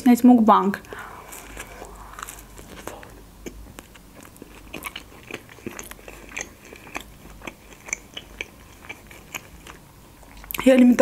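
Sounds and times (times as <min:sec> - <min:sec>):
person chewing crunchy toast: 0:00.8 - 0:10.6.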